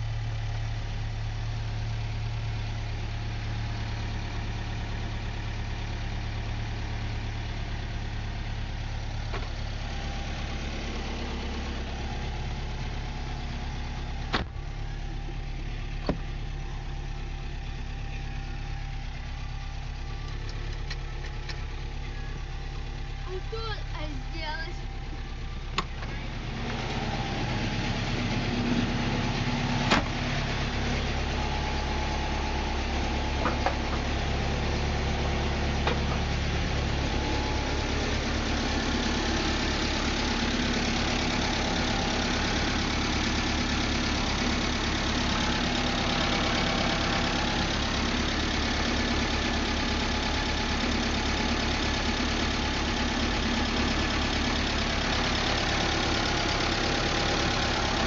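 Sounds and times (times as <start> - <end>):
petrol engine idling: 0.0 - 58.0.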